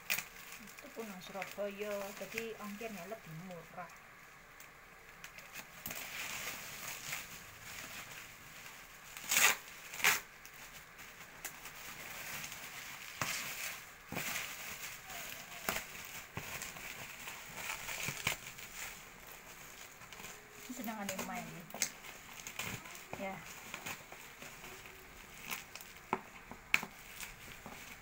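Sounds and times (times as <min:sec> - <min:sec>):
bubble wrap crinkling: 0:00.0 - 0:28.0
sharp plastic crackles: 0:00.0 - 0:28.0.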